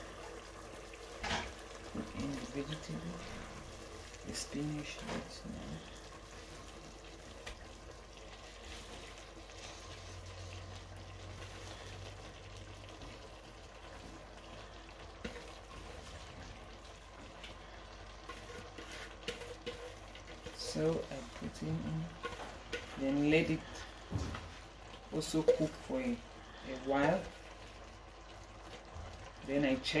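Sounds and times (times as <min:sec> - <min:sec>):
stew simmering with low sizzle: 0:00.0 - 0:30.0.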